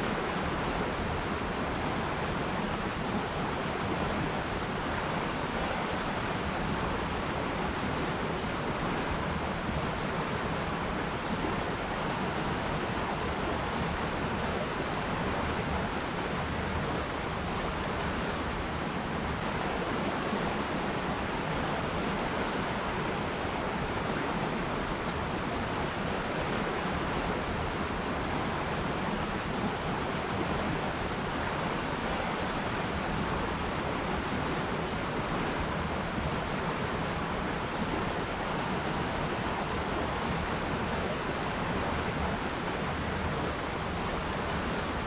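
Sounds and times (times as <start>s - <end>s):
river water rushing: 0.0s - 45.0s.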